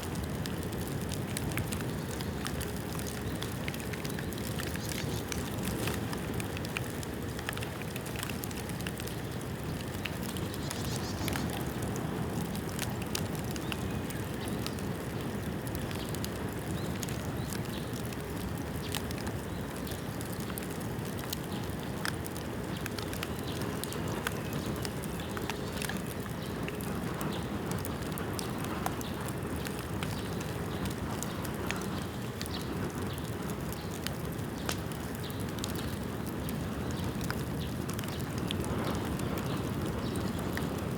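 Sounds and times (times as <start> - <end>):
bonfire crackling and popping: 0.0 - 40.9.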